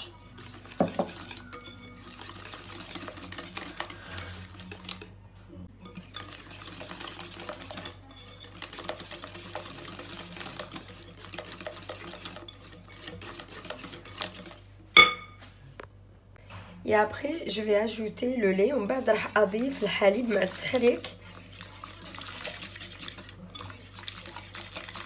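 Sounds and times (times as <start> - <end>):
whisk beating batter in bowl: 0.0 - 5.1, 5.8 - 14.7, 17.9 - 25.0.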